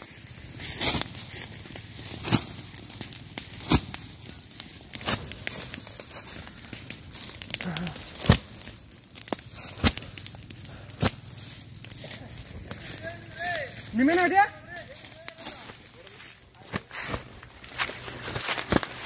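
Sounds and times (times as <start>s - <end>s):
dry leaves and twigs crackling: 0.0s - 19.0s.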